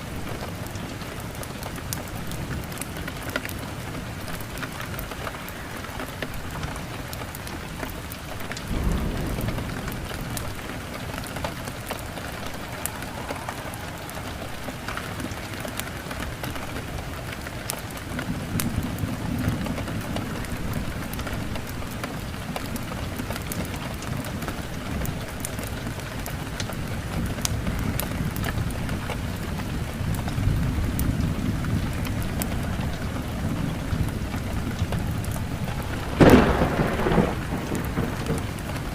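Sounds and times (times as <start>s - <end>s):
heavy rain: 0.0s - 38.9s
thunder rumbling: 0.0s - 38.9s
sharp crackles: 0.2s - 38.9s.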